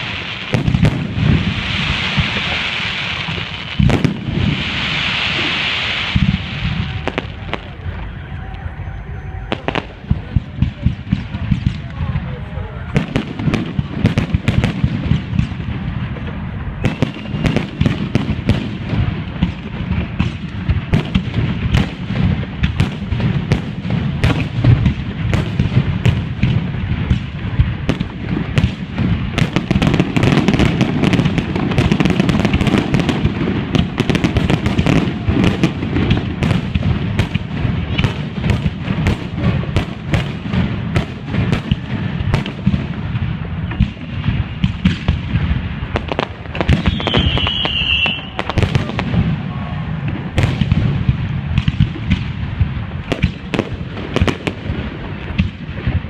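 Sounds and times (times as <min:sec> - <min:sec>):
fireworks cracking and popping: 0:00.0 - 0:56.0.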